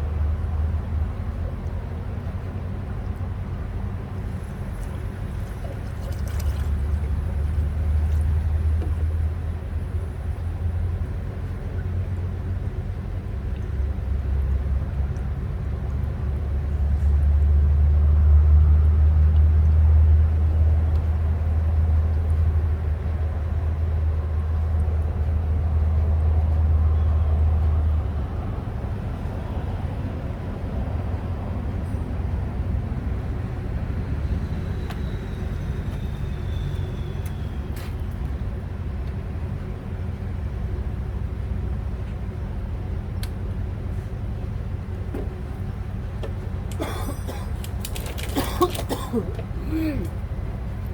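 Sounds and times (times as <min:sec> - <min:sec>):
vehicle engine humming: 0:00.0 - 0:50.9.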